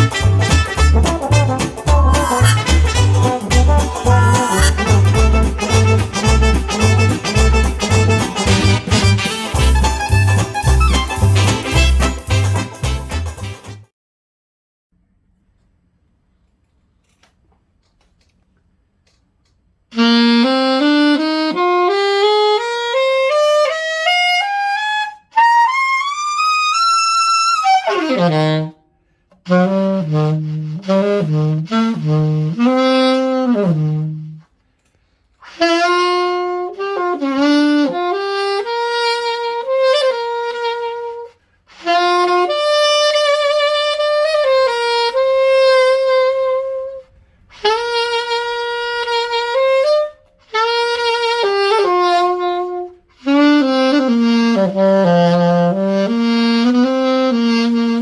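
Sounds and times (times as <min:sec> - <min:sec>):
alto saxophone playing: 0:00.0 - 0:13.5, 0:19.9 - 0:34.7, 0:35.4 - 0:58.0.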